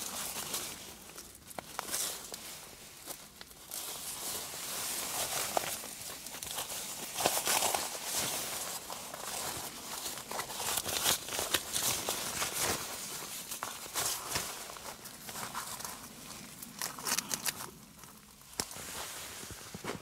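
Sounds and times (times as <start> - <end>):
rustling and crinkling wrapping: 0.0 - 20.0.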